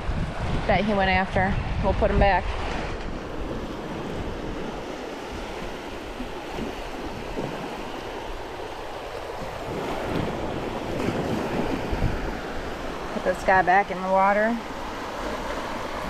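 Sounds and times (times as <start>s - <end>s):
surf waves washing on beach: 0.0s - 16.0s.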